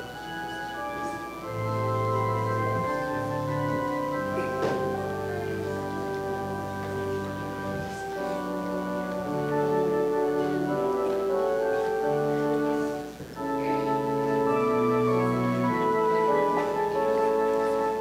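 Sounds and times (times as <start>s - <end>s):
organ playing chords: 0.0s - 18.0s.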